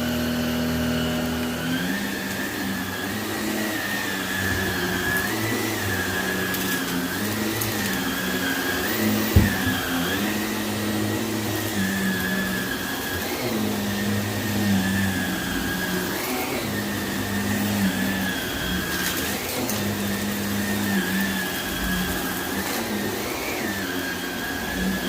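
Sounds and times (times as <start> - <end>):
vacuum cleaner on carpet: 0.0 - 25.0.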